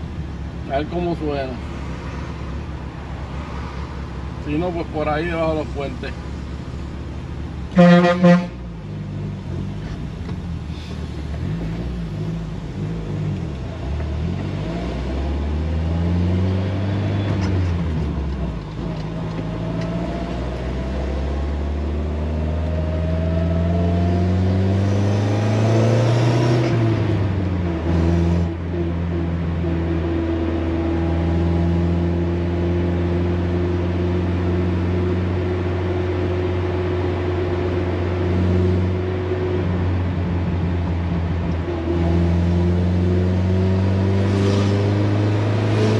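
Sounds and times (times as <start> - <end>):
car engine from inside cabin: 0.0 - 45.9.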